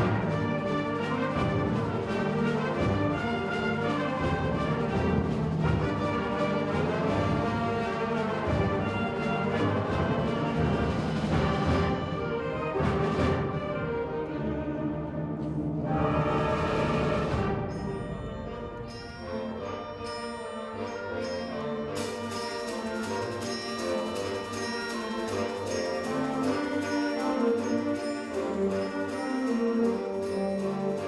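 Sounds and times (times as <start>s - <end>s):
wind band playing chords: 0.0s - 31.0s.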